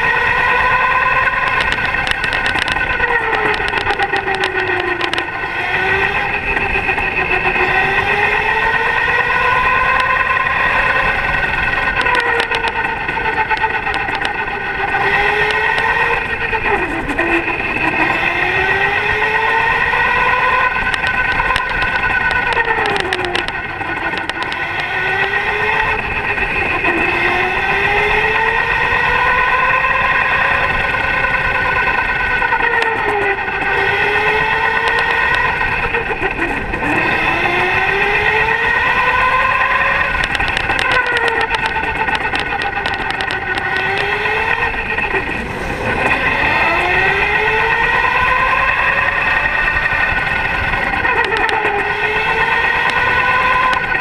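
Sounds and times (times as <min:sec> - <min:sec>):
electric go-kart motor whining: 0:00.0 - 0:54.0
steady rushing noise: 0:00.0 - 0:54.0.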